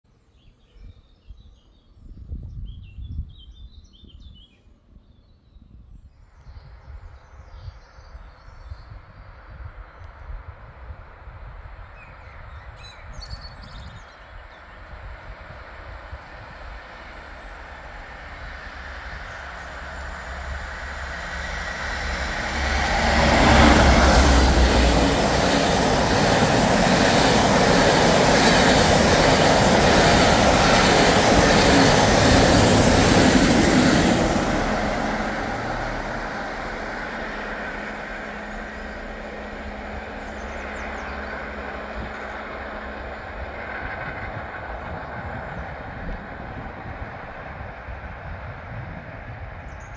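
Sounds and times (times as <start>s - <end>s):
diesel locomotive engine drone: 8.4s - 49.9s.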